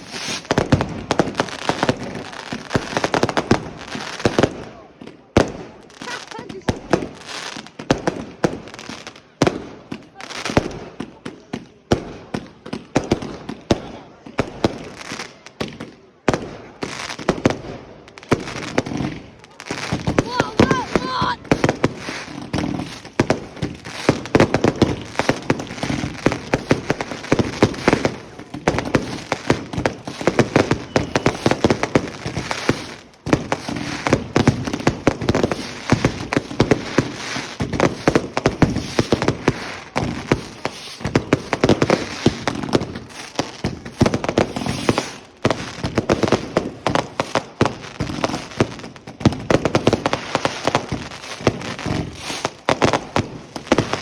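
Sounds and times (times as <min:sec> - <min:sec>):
fireworks and firecrackers popping: 0:00.0 - 0:54.0.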